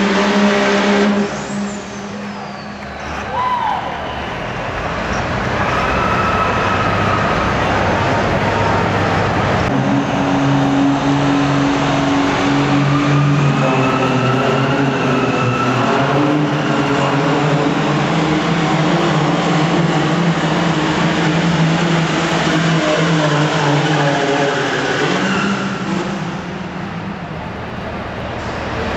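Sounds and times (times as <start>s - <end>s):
diesel truck engine running: 0.0s - 24.8s.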